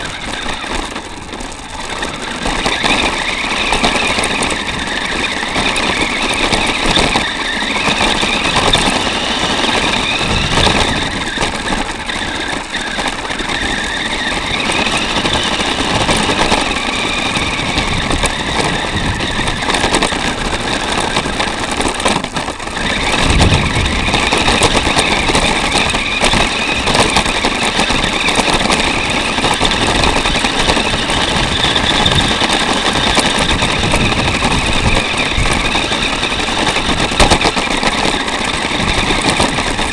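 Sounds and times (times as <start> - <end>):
plastic chassis rattling: 0.0 - 39.9
rc car motor whining: 0.0 - 39.9.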